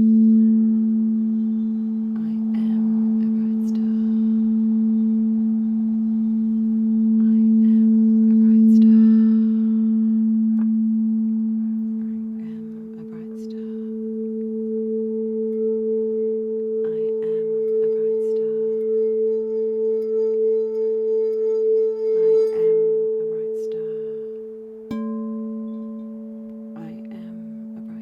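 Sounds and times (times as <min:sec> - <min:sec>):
singing bowl humming: 0:00.0 - 0:28.0.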